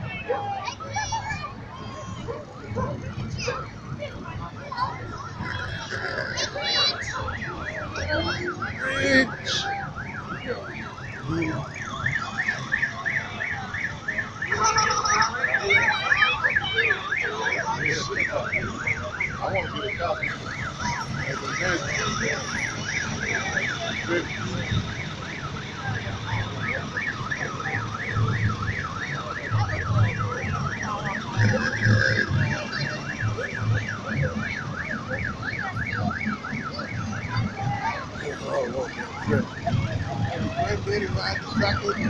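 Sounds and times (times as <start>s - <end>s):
fire engine siren warbling: 0.0s - 42.0s.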